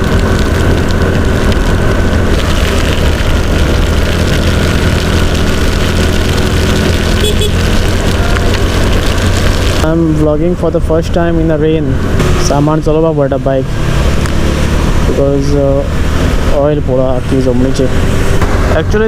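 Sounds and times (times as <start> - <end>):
motorcycle engine running: 0.0 - 19.0
wind rushing on microphone: 0.0 - 19.0.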